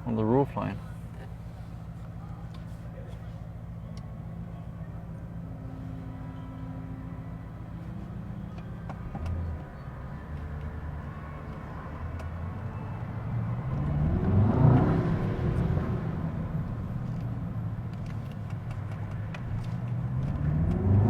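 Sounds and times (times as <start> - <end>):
car engine accelerating: 1.2 - 21.0.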